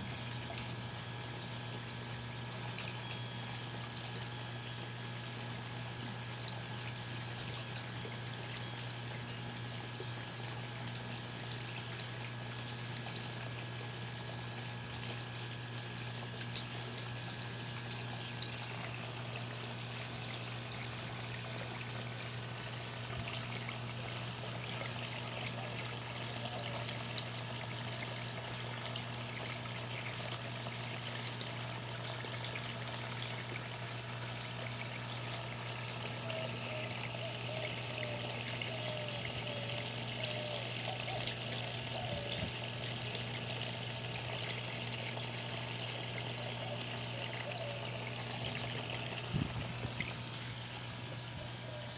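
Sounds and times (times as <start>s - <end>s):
low electric pump buzz: 0.0s - 51.9s
water trickling and splashing: 0.0s - 51.9s.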